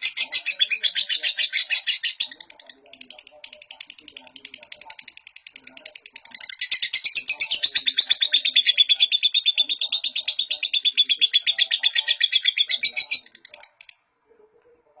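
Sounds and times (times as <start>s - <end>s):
lovebird chattering: 0.0s - 14.0s.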